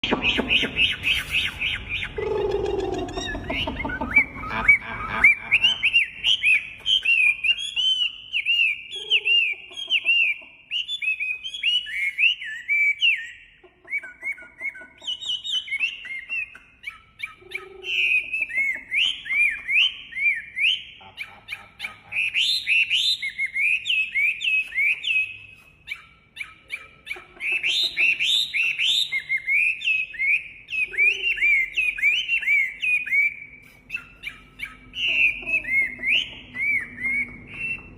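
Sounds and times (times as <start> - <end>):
songbird whistling: 0.0 - 37.9.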